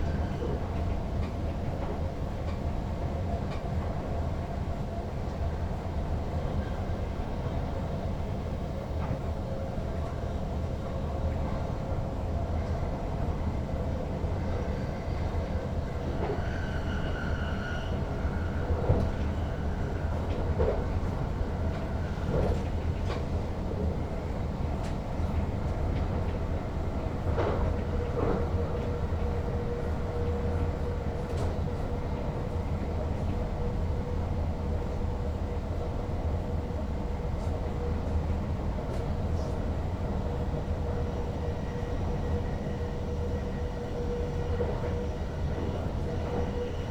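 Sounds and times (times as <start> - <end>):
train running with low rumble: 0.0 - 46.9.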